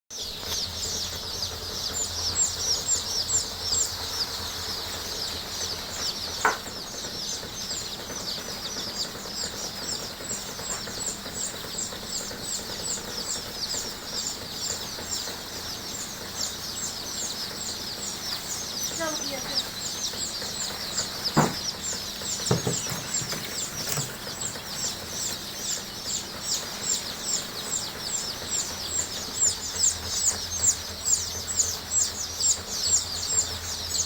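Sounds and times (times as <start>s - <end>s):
chicks peeping: 0.1s - 34.0s.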